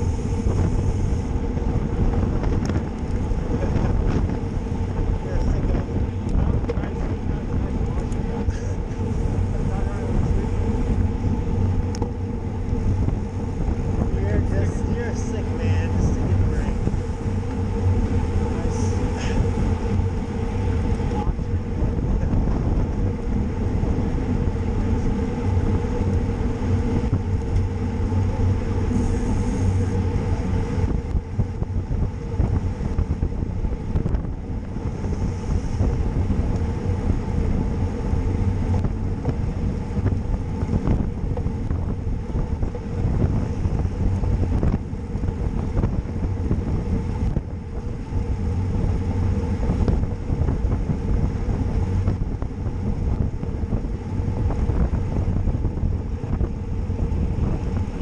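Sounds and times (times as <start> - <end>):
low hum: 0.0 - 58.0
wind buffeting microphone: 0.0 - 58.0.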